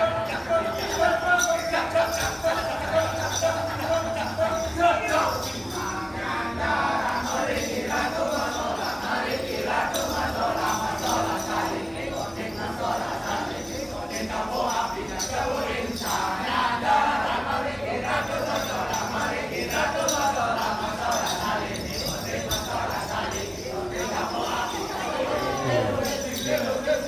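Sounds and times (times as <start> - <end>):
bells jingling: 0.0 - 27.0
crowd chanting: 0.0 - 27.0.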